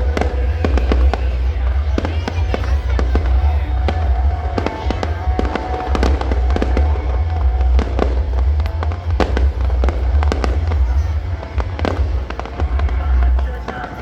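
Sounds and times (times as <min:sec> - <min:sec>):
fireworks bangs and crackles: 0:00.0 - 0:14.0
heavy low rumble: 0:00.0 - 0:14.0.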